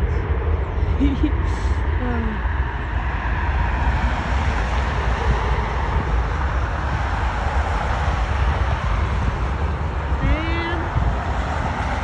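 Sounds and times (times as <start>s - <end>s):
jet engines at takeoff thrust: 0.0s - 12.0s.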